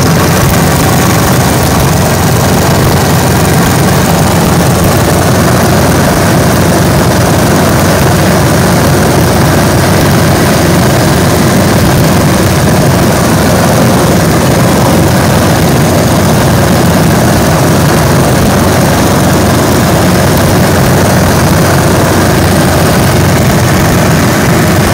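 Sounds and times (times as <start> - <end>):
propeller plane engine drone: 0.0 - 24.9.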